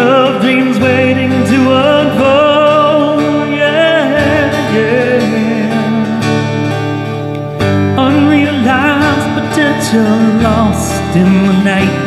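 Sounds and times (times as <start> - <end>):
man singing: 0.0 - 6.8, 7.9 - 12.0
guitar chords: 0.0 - 12.0.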